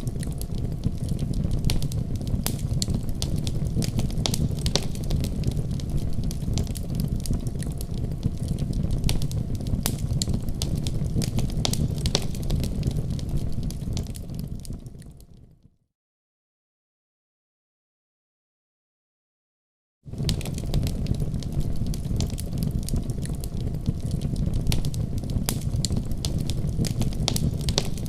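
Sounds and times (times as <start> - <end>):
wood fire crackling: 0.0 - 15.6, 20.1 - 28.0.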